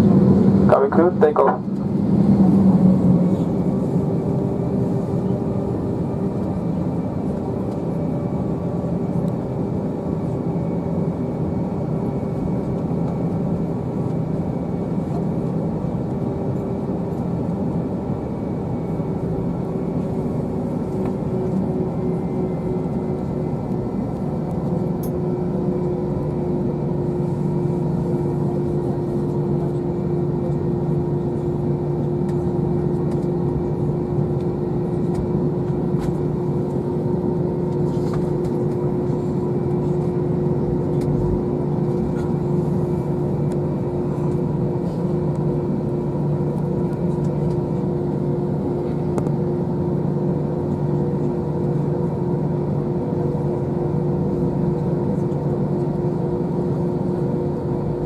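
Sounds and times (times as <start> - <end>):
aircraft cabin engine drone: 0.0 - 58.0.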